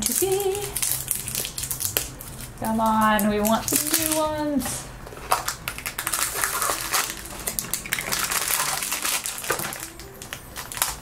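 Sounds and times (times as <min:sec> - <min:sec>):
foil wrapper crinkling: 0:00.0 - 0:11.0
scissors cutting foil: 0:00.0 - 0:11.0.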